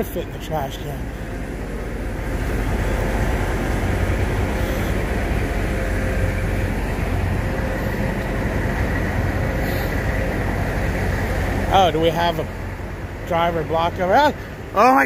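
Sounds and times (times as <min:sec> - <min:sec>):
diesel truck engines rumbling: 0:00.0 - 0:15.0
faint steady hum: 0:00.0 - 0:15.0.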